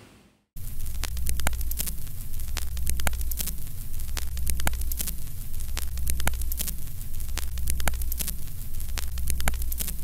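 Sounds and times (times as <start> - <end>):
film crackle and pops: 0.6 - 10.0.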